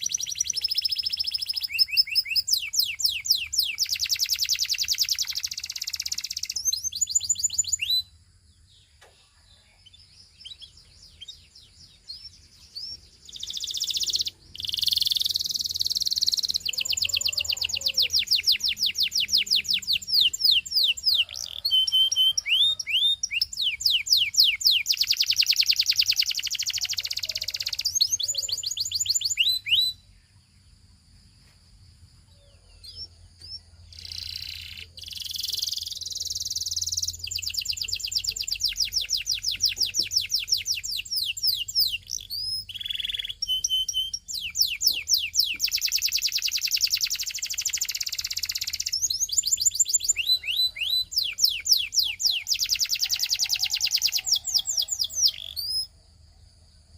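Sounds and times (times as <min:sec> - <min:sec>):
canary singing in fast trills: 0:00.0 - 0:30.4, 0:32.2 - 0:56.4.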